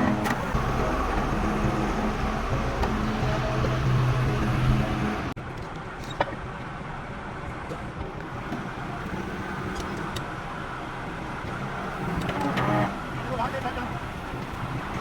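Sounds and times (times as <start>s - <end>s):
engine running hum: 0.0s - 15.0s
mechanical background noise: 0.0s - 15.0s.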